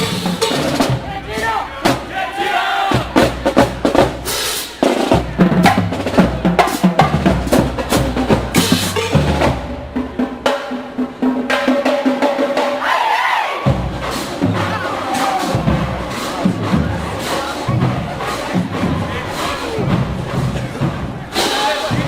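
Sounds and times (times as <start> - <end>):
rapid snare drum strokes: 0.0 - 12.8, 13.6 - 22.0.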